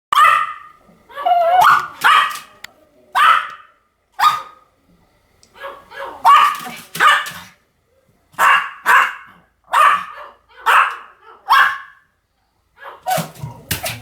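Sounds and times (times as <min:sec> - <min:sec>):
small dog barking: 0:00.1 - 0:04.6, 0:05.6 - 0:07.5, 0:08.4 - 0:12.0, 0:12.8 - 0:14.0.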